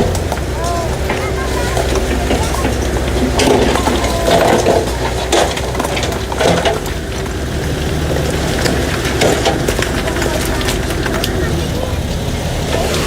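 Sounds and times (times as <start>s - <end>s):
heavy machine engine running: 0.0s - 13.0s
wood cracking and splintering: 0.0s - 13.0s.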